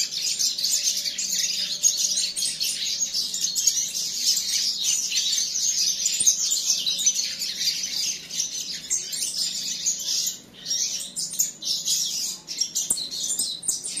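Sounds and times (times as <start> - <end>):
finches chirping: 0.0 - 14.0.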